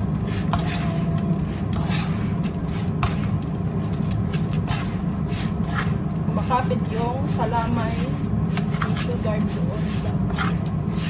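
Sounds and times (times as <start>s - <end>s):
steady low hum: 0.0s - 11.0s
metal spoon scraping frying pan: 0.1s - 11.0s.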